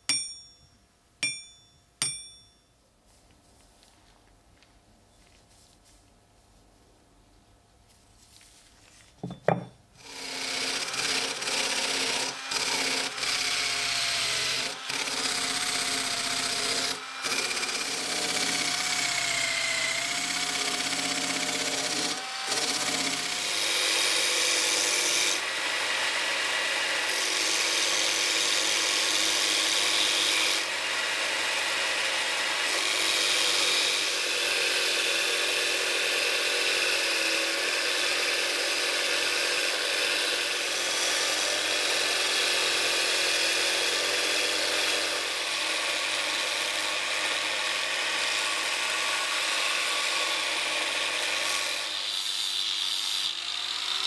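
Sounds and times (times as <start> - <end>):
bench grinder grinding steel: 9.2 - 54.0.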